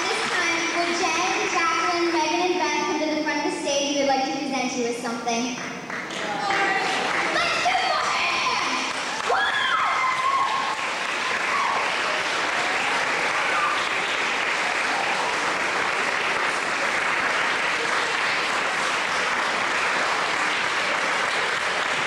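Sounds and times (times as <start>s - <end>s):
audience applauding: 0.0s - 1.6s, 5.6s - 22.0s.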